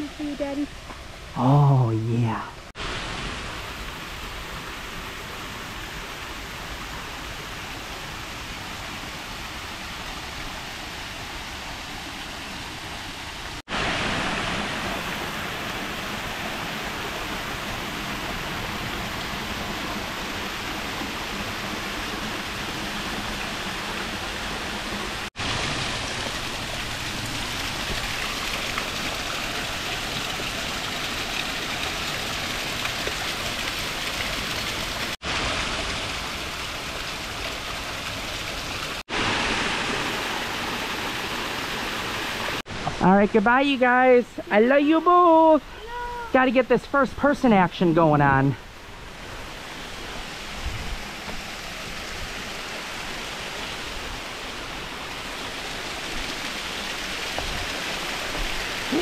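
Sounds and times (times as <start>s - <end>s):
waterfall rushing: 1.2s - 43.0s, 48.5s - 59.0s.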